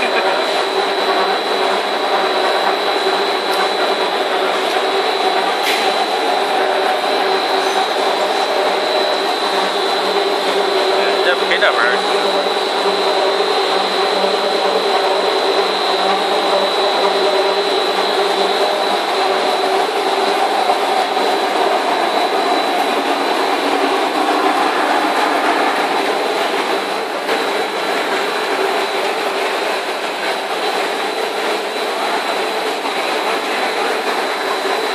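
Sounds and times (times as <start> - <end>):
machinery high whine: 0.0 - 34.9
machinery mechanical hum: 0.0 - 34.9.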